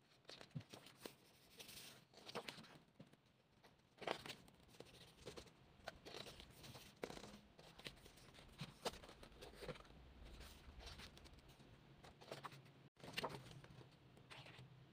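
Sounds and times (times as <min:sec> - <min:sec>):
glossy pages rustling: 0:00.3 - 0:02.8, 0:04.0 - 0:11.4, 0:12.1 - 0:14.6.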